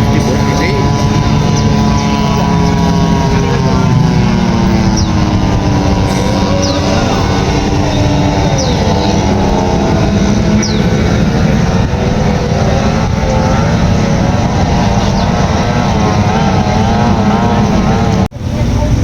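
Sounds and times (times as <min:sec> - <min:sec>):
powerboat engines running: 0:00.0 - 0:19.0.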